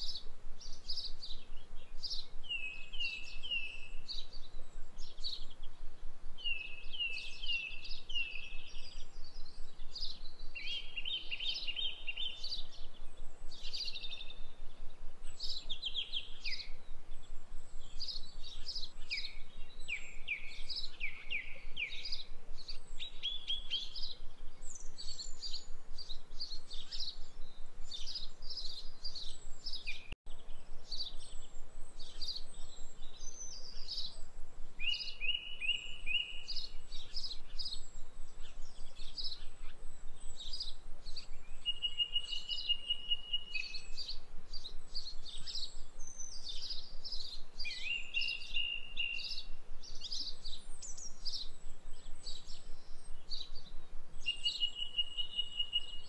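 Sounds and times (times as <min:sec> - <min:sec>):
birds chirping and singing: 0:00.0 - 0:05.8, 0:06.4 - 0:56.0
faint steady hiss: 0:00.0 - 0:56.0.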